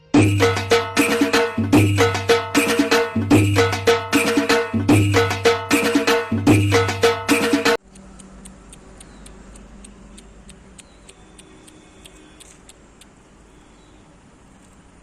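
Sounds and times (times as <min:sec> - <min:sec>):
high-pitched ticking: 0:00.2 - 0:14.2.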